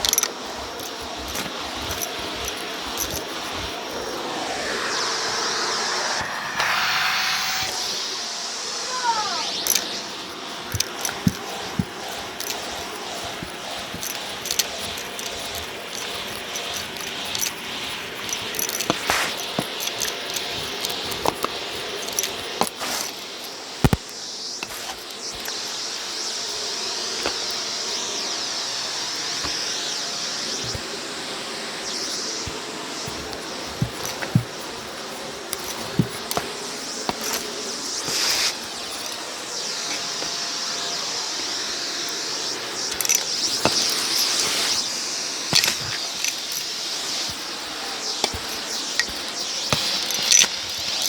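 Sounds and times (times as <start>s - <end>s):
vacuum cleaner running: 0.0s - 23.9s, 24.6s - 51.0s.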